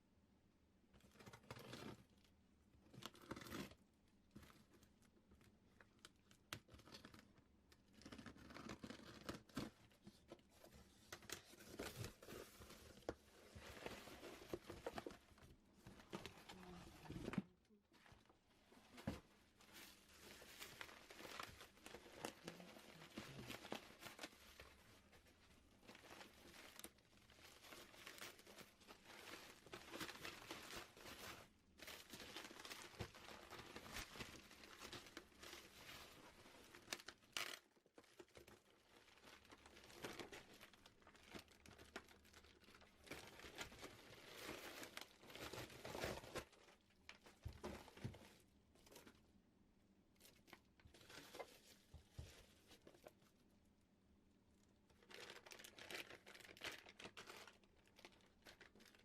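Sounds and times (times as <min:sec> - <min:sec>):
packaging crinkling and rustling: 0:01.0 - 0:49.2, 0:50.2 - 0:53.4, 0:54.9 - 0:59.0.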